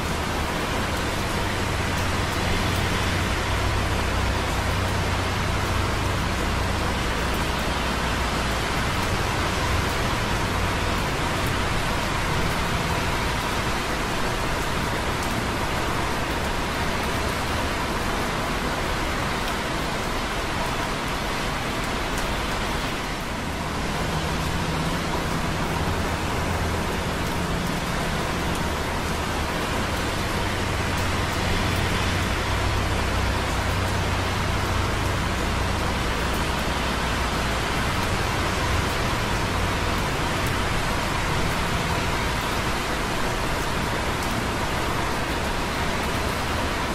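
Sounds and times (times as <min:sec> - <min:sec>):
light rain dripping on concrete: 0:00.0 - 0:46.9
traffic hiss on wet roads: 0:00.0 - 0:46.9
vehicles passing rumble: 0:00.0 - 0:46.9.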